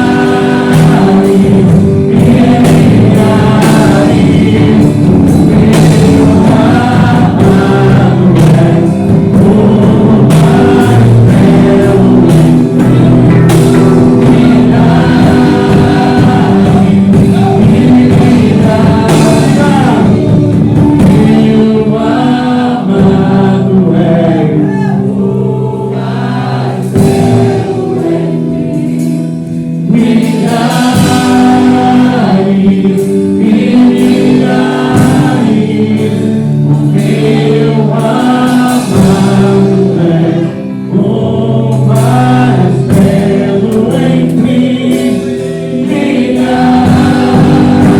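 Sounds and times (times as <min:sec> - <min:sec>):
worship song singing: 0:00.0 - 0:47.9.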